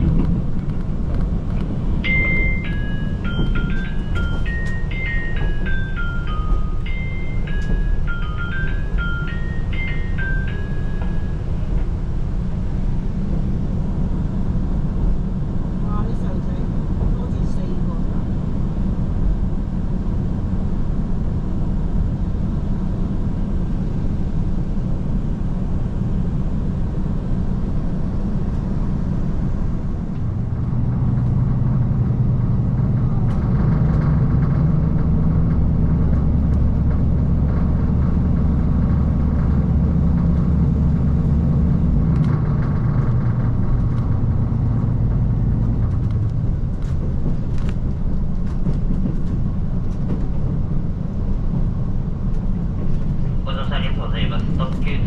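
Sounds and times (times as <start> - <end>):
diesel railcar engine rumble: 0.0 - 55.0.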